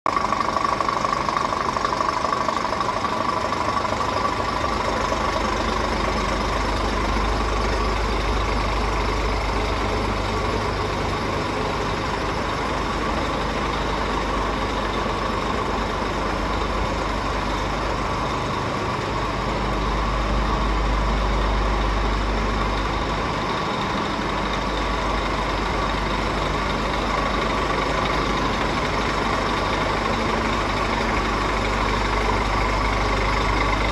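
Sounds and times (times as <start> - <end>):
constant engine whine: 0.1 - 33.9
diesel engine idling: 0.1 - 33.9.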